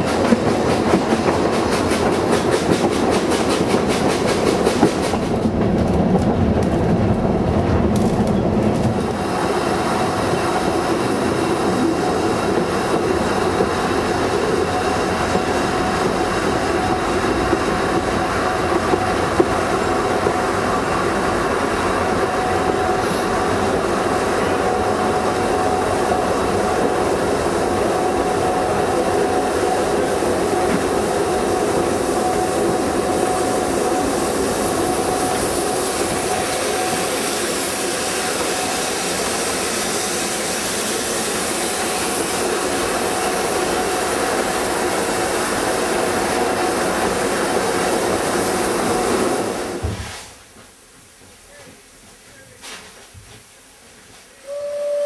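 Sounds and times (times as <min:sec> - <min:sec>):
steam train passing: 0:00.0 - 0:55.0
train wheels rumbling on rails: 0:00.0 - 0:55.0.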